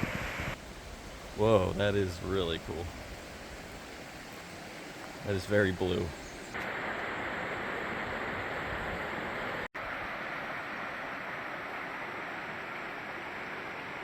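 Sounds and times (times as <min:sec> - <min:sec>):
flowing spring water: 0:00.0 - 0:14.0.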